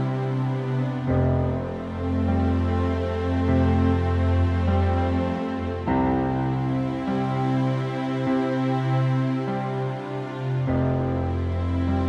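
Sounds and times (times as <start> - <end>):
slow sad music sustained chords: 0.0 - 12.0.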